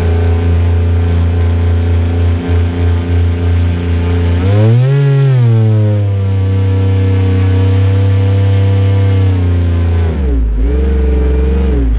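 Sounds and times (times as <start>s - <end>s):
model boat motor running: 0.0s - 11.9s.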